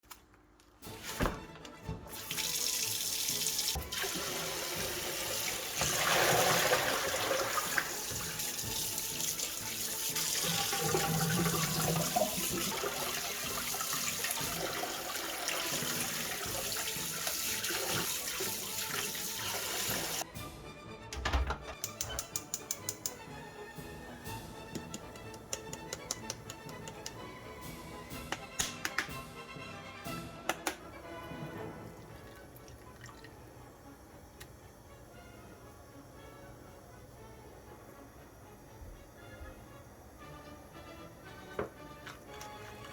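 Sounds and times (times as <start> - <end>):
tap water running into sink: 2.0 - 20.2, 21.8 - 27.6, 30.8 - 42.9.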